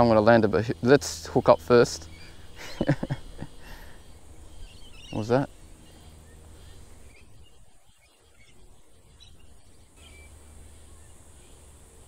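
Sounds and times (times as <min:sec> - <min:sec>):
high-pitched insect drone: 0:00.0 - 0:12.0
low background noise: 0:00.0 - 0:12.0.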